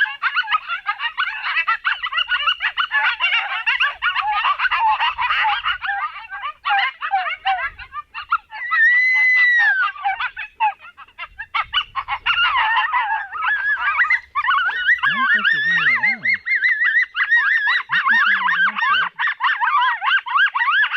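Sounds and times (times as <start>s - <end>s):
coyote howl: 0.0s - 20.9s
coyotes yipping and barking: 0.0s - 20.9s.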